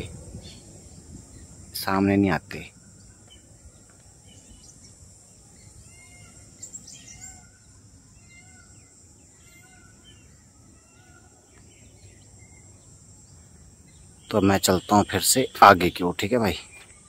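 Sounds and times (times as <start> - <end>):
birds chirping and calling: 0.0 - 17.0
insect drone: 0.0 - 17.0.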